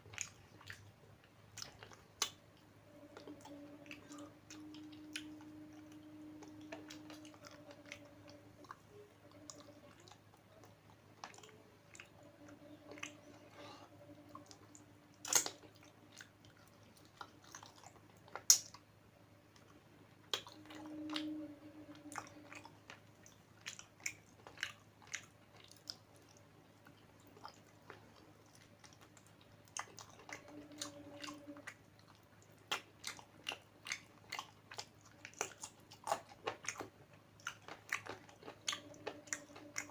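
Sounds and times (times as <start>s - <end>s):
person chewing food: 0.0s - 18.9s, 19.5s - 39.9s.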